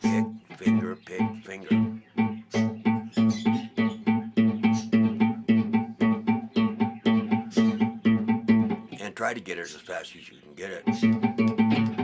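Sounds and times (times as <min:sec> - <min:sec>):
guitar plucking single note: 0:00.0 - 0:09.2, 0:10.7 - 0:12.0.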